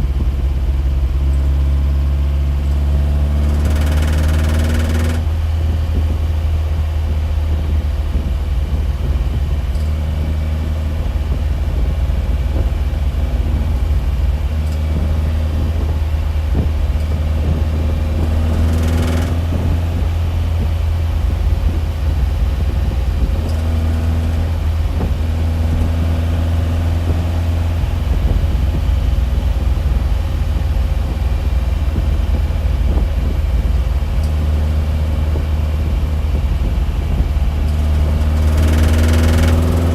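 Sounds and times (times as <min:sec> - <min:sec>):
loud low drone: 0:00.0 - 0:39.9.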